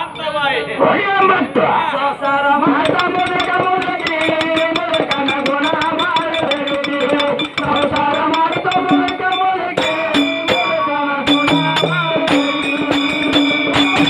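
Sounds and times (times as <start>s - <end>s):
man singing folk song: 0.1s - 14.0s
small hand cymbals: 2.2s - 14.0s
barrel drum beat: 2.3s - 14.0s.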